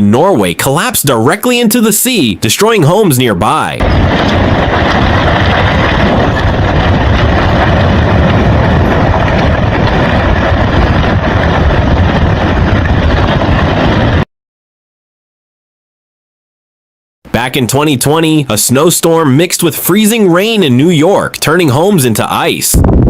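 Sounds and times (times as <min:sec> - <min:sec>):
landslide rumbling roar: 0:00.0 - 0:14.3, 0:17.4 - 0:23.0.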